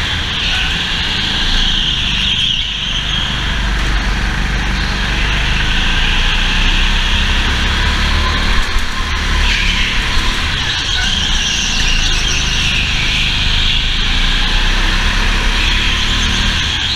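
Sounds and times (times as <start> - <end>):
go-kart engine drone: 0.0 - 16.9.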